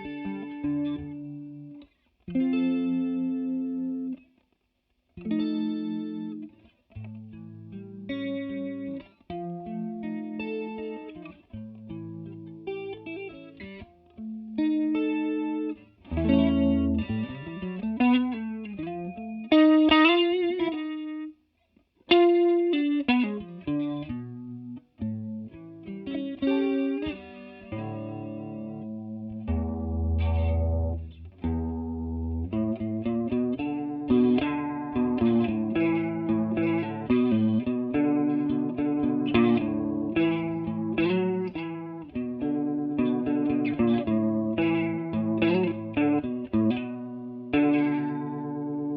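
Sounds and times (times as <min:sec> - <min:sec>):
electric guitar with chorus effect: 0:00.0 - 0:48.9.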